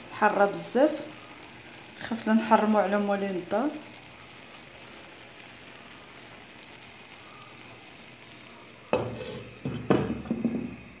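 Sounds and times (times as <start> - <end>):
cooking pot hissing: 0.0 - 11.0.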